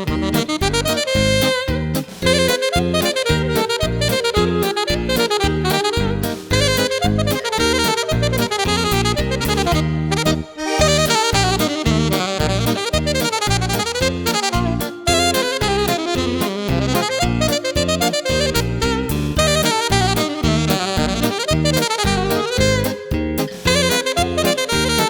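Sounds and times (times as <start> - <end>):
bass line: 0.0 - 25.0
piano: 0.0 - 25.0
saxophone melody: 0.0 - 25.0.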